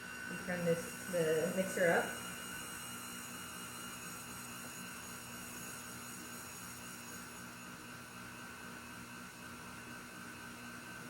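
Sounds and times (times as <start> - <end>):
electric stand mixer running: 0.0 - 11.0.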